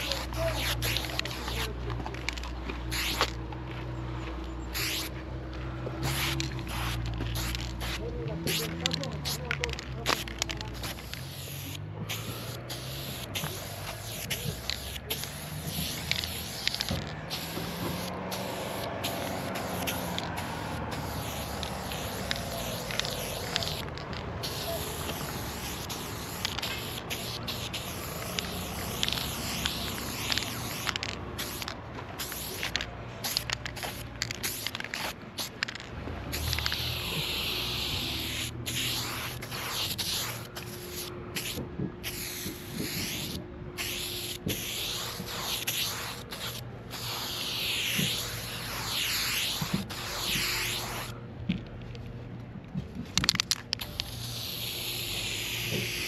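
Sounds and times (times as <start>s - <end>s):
spray paint can hissing: 0.0s - 3.4s, 4.7s - 5.2s, 6.0s - 51.2s, 53.2s - 56.0s.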